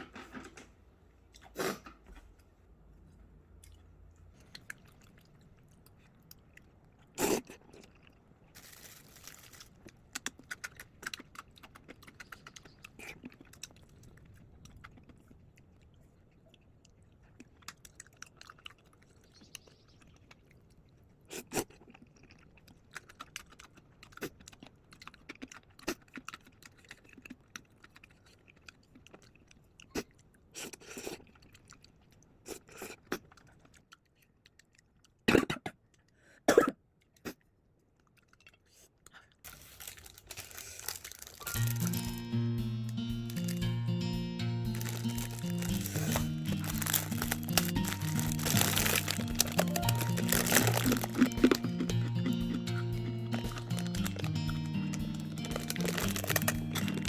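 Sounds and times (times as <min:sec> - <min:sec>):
person chewing and crunching: 0:03.5 - 0:36.2, 0:37.0 - 0:57.0.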